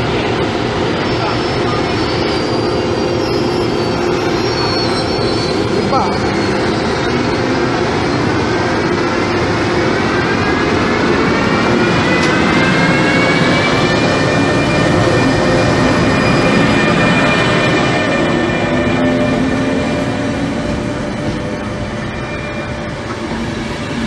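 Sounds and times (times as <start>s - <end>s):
locomotive whine rising: 0.0s - 24.0s
train passing: 0.0s - 24.0s.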